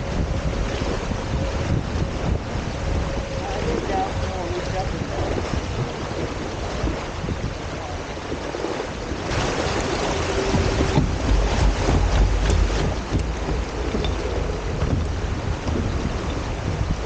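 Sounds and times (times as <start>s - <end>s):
water rushing past hulls: 0.0s - 17.0s
wind buffeting microphone: 0.0s - 17.0s.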